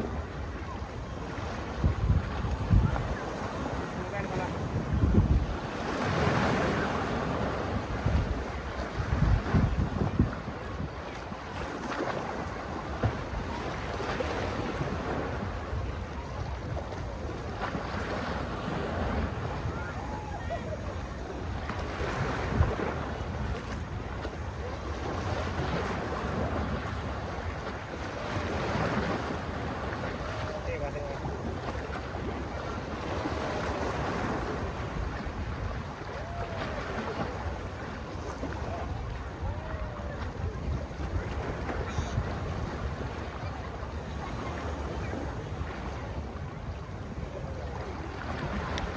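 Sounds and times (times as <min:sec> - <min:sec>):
sea waves washing ashore: 0:00.0 - 0:48.9
wind rumbling on microphone: 0:00.0 - 0:48.9.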